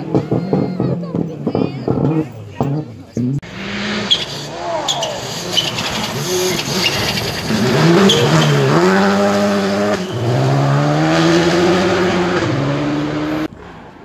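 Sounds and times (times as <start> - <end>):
rally car engine revving: 0.0 - 13.5.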